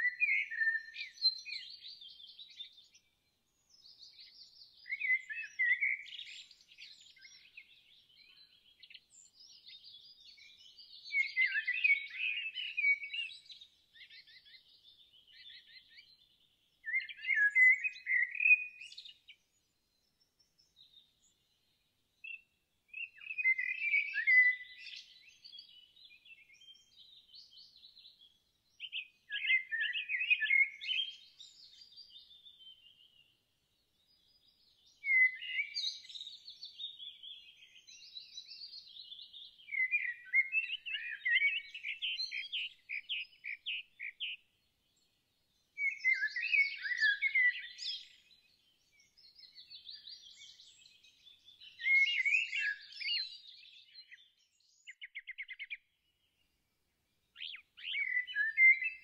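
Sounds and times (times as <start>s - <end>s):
songbird twittering: 0.0s - 19.6s, 20.4s - 33.4s, 34.0s - 45.1s, 45.8s - 56.2s, 57.3s - 59.0s.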